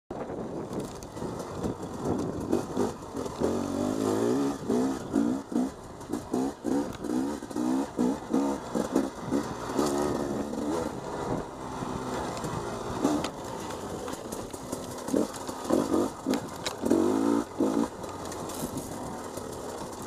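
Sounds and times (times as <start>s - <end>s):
dirt bike engine revving: 1.1s - 20.0s.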